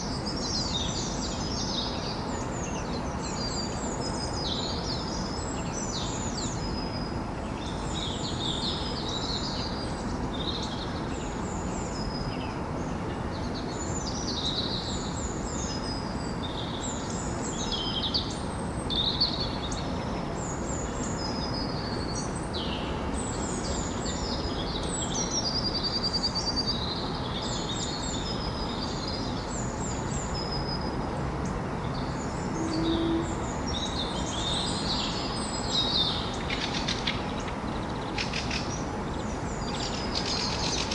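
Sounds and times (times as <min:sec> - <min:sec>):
low city hum: 0:00.0 - 0:40.9
small birds chirping: 0:00.0 - 0:40.9.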